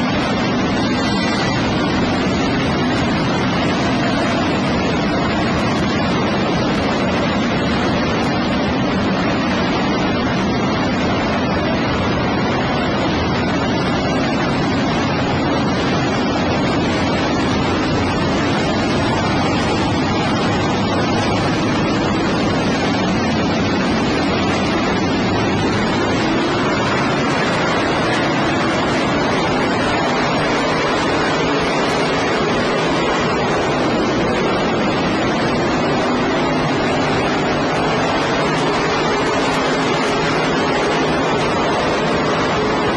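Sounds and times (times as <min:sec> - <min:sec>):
sprint car engines roaring: 0:00.0 - 0:42.9.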